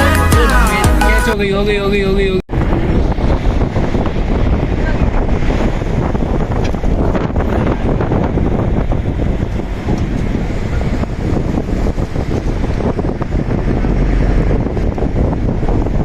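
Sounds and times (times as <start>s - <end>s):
wind buffeting microphone: 1.4s - 16.0s.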